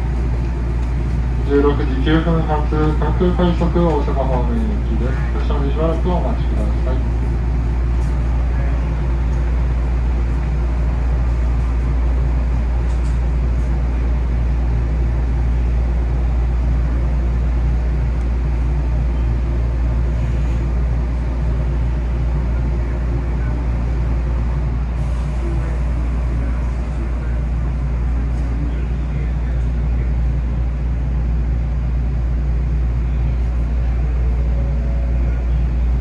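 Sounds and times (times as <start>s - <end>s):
electric train humming at standstill: 0.0s - 36.0s.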